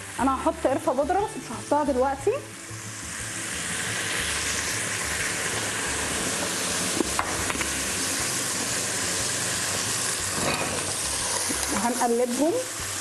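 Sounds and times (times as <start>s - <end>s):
chicken sizzling in a hot pot: 0.0s - 13.0s.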